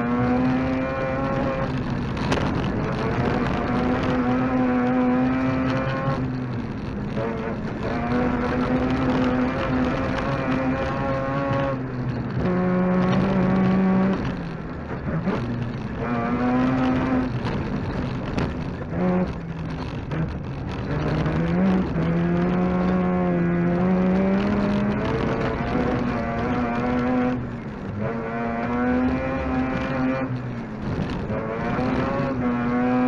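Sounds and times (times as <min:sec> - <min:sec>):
rally car engine at full throttle: 0:00.0 - 0:33.0.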